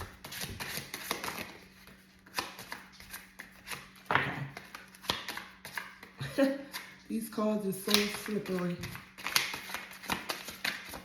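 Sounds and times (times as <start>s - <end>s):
cards being shuffled: 0.0s - 7.0s, 7.8s - 11.0s.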